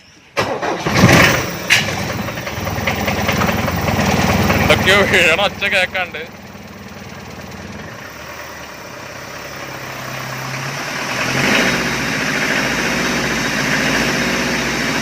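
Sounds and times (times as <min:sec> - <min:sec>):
diesel engine idling: 0:01.1 - 0:15.0.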